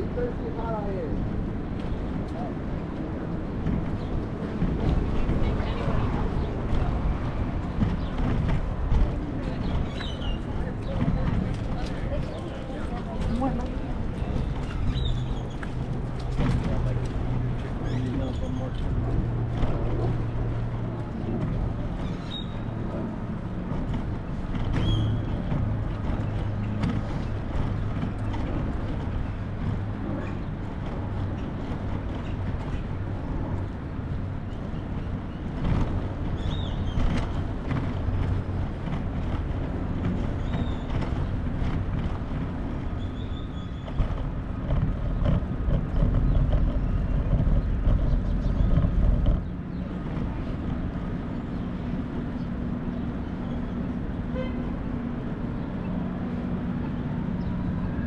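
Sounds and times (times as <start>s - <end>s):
traffic engines humming: 0.0s - 58.0s.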